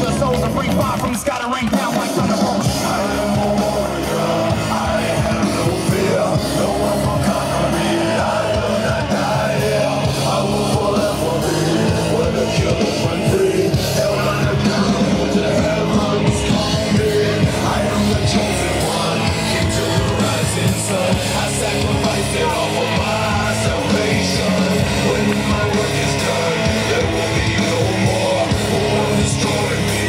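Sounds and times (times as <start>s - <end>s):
rock music with vocals: 0.0s - 30.0s.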